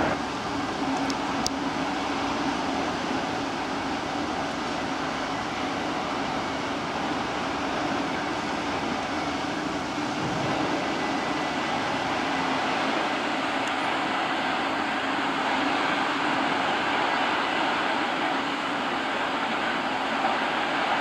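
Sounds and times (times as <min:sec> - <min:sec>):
locomotive running rumble: 0:00.0 - 0:21.0.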